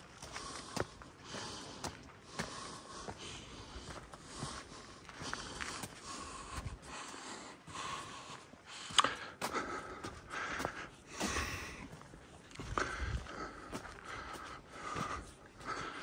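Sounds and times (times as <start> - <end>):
footsteps on paved trail: 0.0 - 16.0
hiker breathing: 0.0 - 16.0.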